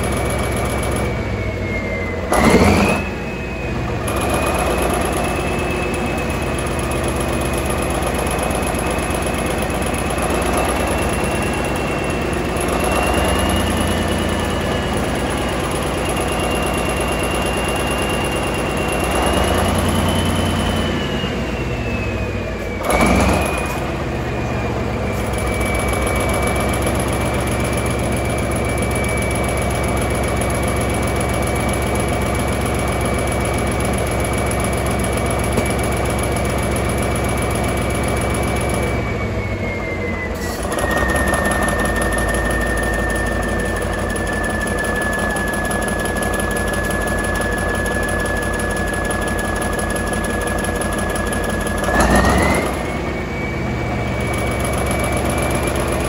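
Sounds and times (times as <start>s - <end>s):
diesel engine running: 0.0s - 56.0s
high whine: 0.0s - 56.0s.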